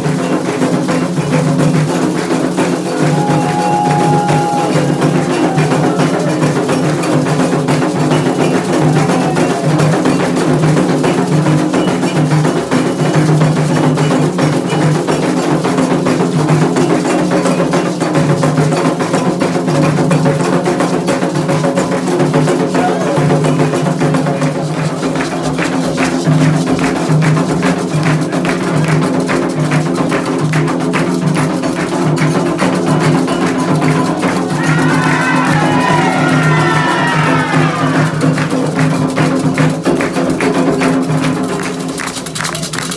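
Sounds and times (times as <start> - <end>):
hand drums playing fast rhythm: 0.0 - 42.9.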